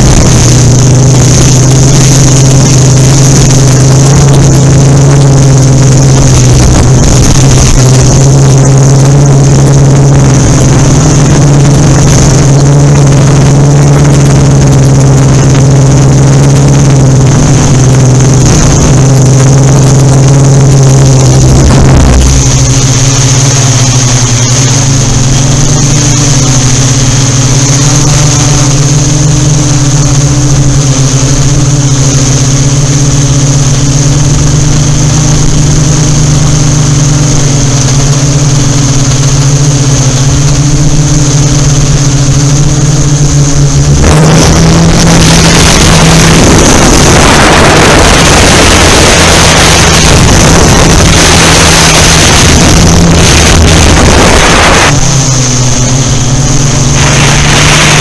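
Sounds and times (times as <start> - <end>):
drone rotors humming: 0.0 - 58.0
wind rush on microphone: 0.0 - 58.0.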